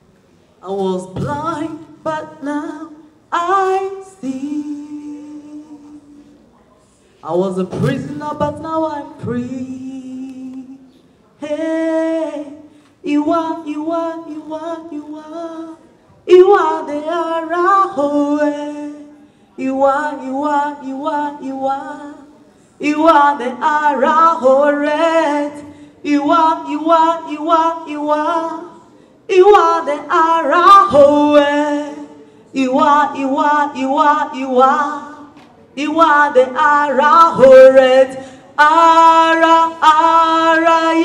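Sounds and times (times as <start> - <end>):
woman singing gospel unaccompanied: 0.6 - 6.4, 7.2 - 41.0.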